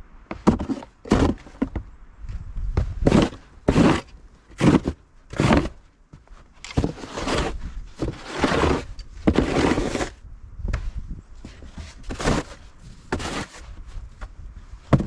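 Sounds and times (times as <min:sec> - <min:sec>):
snow crunching and scraping: 0:00.3 - 0:01.8, 0:02.8 - 0:10.2, 0:11.4 - 0:15.0.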